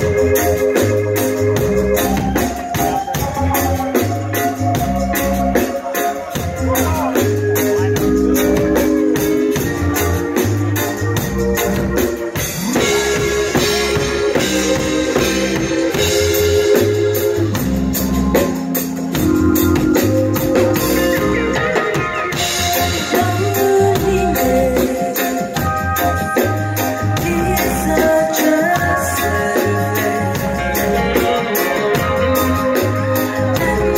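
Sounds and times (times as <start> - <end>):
live reggae band playing: 0.0 - 33.9.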